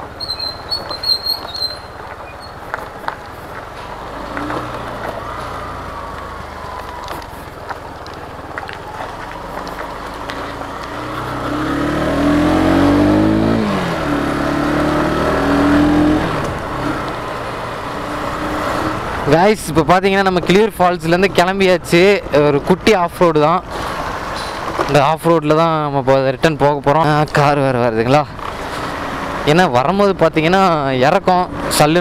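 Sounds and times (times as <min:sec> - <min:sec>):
motorbike engines running: 0:00.0 - 0:25.9.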